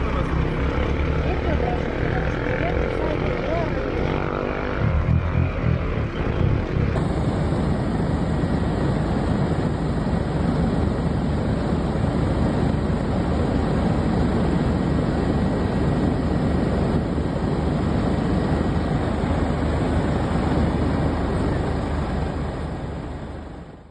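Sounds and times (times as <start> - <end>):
aircraft engine and propeller drone: 0.0 - 23.9.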